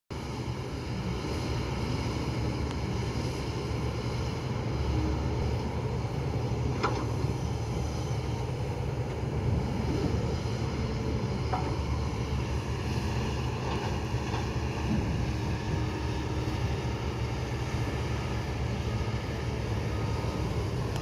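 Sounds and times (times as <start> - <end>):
excavator engine rumbling: 0.2 - 21.0.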